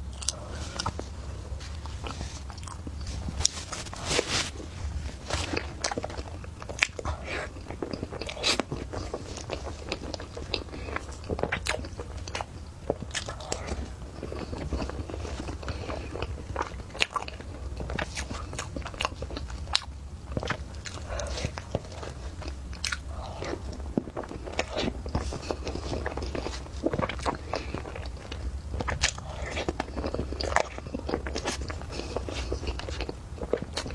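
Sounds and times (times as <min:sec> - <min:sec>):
close-miked chewing and mouth clicks: 0:00.0 - 0:33.9
steady low hum: 0:00.0 - 0:33.9.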